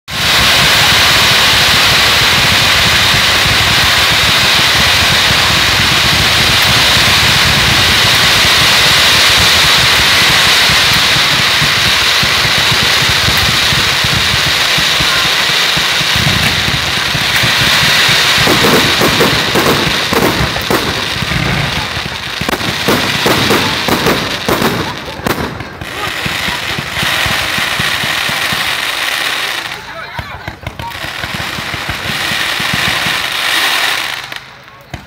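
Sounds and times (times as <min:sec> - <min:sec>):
firework fountains hissing: 0:00.1 - 0:35.0
sharp crackles: 0:00.1 - 0:35.0.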